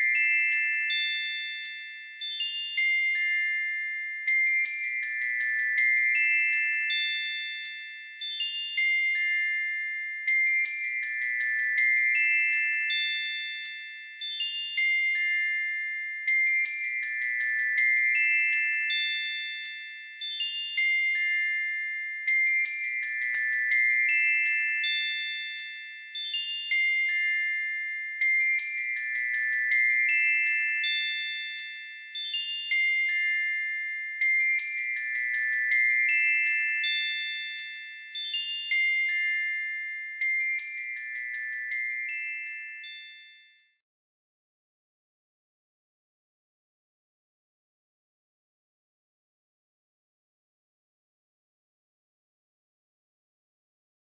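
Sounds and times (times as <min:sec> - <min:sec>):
bell-like tinkling music: 0:00.0 - 0:43.9.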